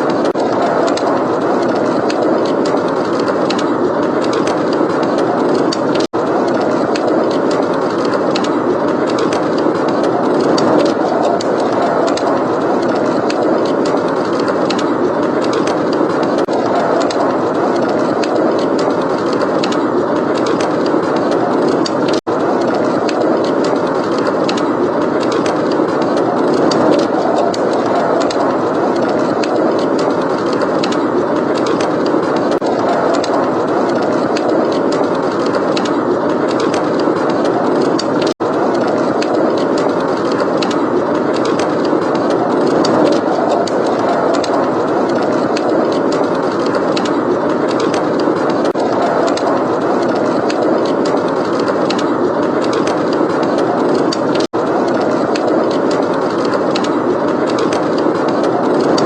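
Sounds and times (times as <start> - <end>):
blizzard wind blowing: 0.0 - 59.0
wood fire crackling and popping: 0.0 - 59.0.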